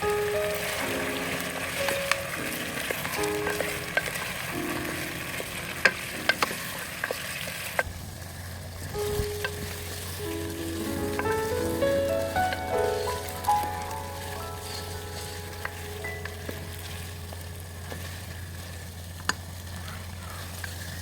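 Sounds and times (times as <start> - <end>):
soft music with mallet notes: 0.0 - 7.2, 9.0 - 18.9.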